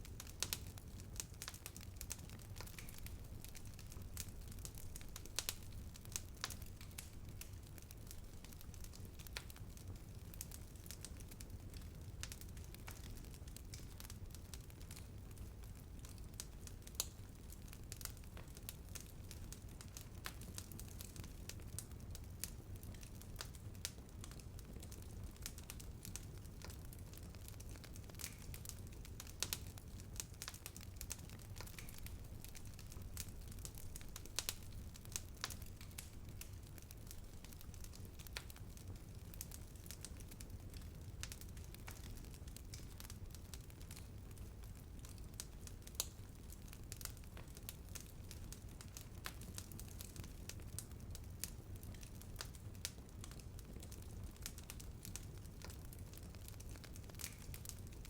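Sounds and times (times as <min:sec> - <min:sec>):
bonfire crackling and popping: 0:00.0 - 0:58.0
low rumble of flames: 0:00.0 - 0:58.0.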